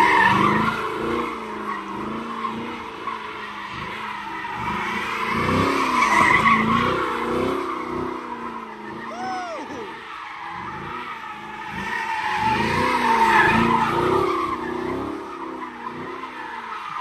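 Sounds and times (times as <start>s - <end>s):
car engine revving: 0.0s - 17.0s
tires squealing: 0.0s - 17.0s.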